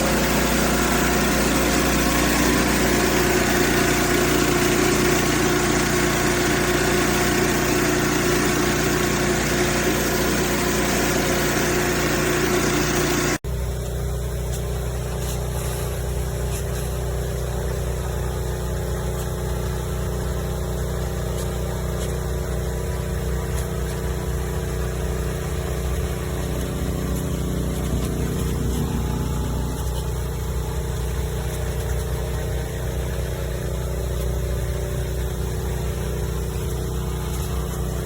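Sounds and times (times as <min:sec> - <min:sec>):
pressure washer engine running: 0:00.0 - 0:38.0.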